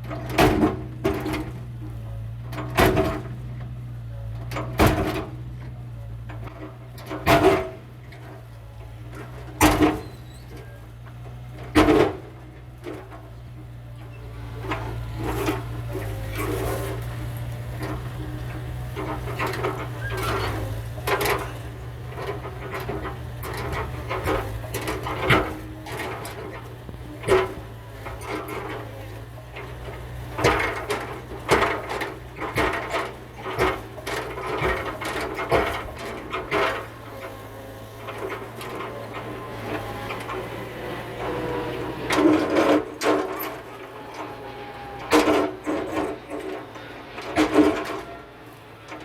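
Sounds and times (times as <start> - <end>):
excavator engine humming: 0.0 - 49.0.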